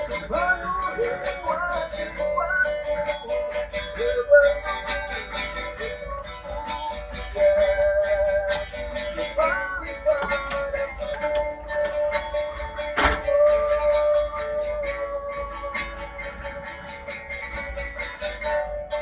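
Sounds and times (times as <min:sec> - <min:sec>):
strummed guitar: 0:00.0 - 0:19.0.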